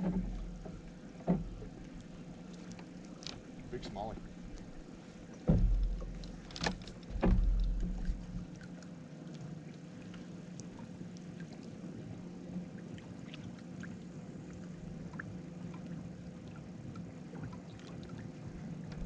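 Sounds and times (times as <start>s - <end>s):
boat motor humming: 0.0s - 19.0s
light water sounds: 0.0s - 19.0s.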